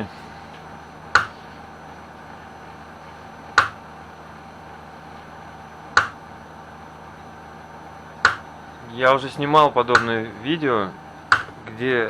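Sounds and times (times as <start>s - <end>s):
printer running hum: 0.0s - 12.0s.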